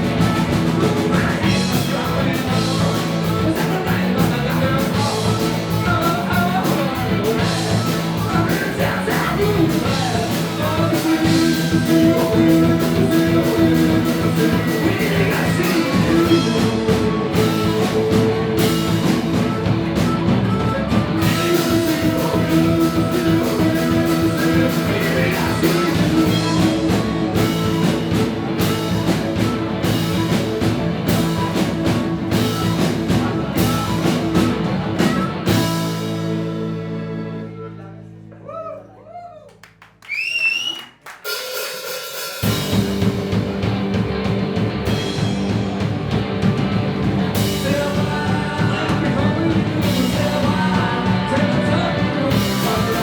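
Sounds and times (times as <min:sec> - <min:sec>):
drum kit: 0:00.0 - 0:37.3, 0:40.6 - 0:53.0
electric guitars: 0:00.0 - 0:38.3, 0:42.4 - 0:53.0
person singing: 0:00.0 - 0:39.0, 0:47.3 - 0:53.0
bass guitar: 0:00.0 - 0:40.0, 0:42.4 - 0:53.0.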